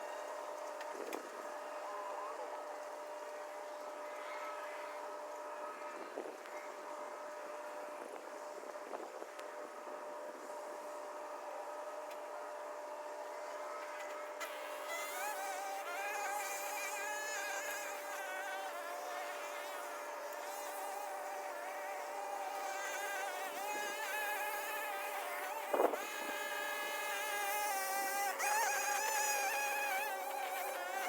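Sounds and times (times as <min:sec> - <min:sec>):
small motor buzzing: 0:00.0 - 0:31.0.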